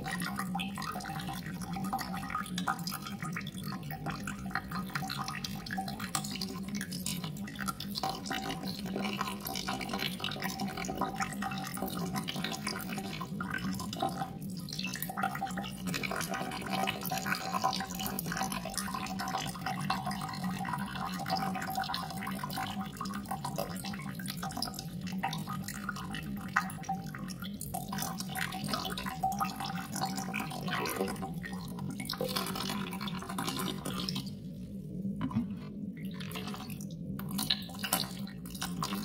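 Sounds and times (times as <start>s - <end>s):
water dripping and trickling: 0.0s - 39.0s.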